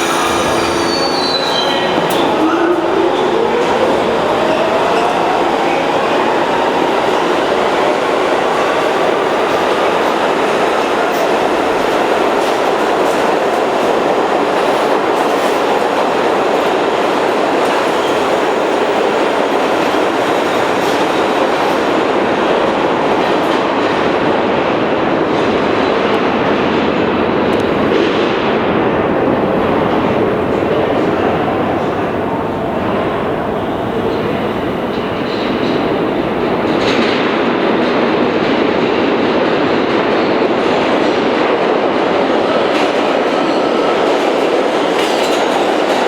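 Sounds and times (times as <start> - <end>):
subway train wheels rumbling: 0.0 - 46.0.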